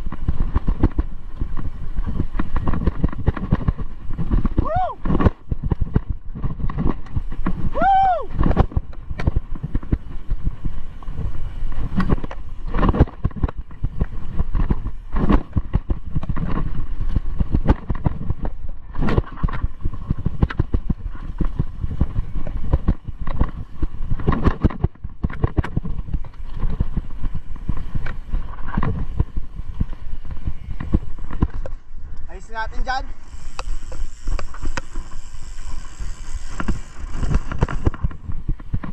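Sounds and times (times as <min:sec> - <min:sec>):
bike knocks and rattles: 0:00.0 - 0:38.9
bike tyres rumbling on dirt: 0:00.0 - 0:38.9.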